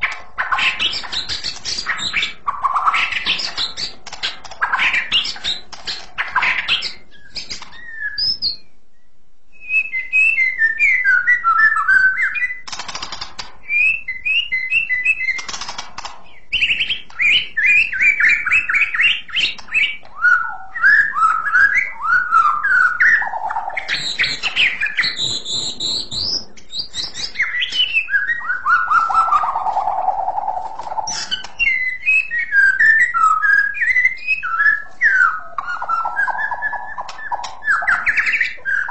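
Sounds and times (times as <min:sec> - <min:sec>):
bird whistling song: 0:00.0 - 0:38.9.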